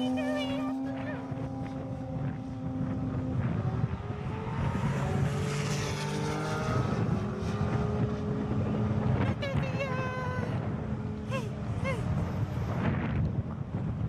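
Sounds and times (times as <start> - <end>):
road and wind noise: 0.0 - 14.0
sports car engines running hard: 0.0 - 14.0.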